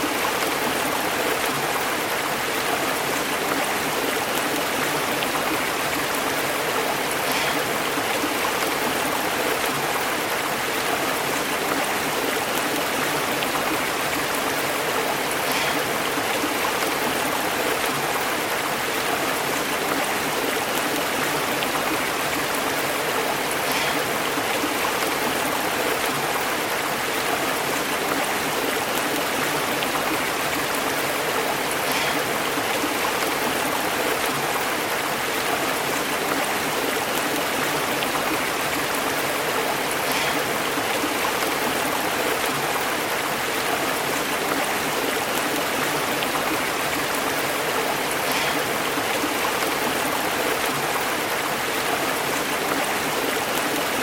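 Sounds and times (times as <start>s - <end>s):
stream burbling over rocks: 0.0s - 54.0s.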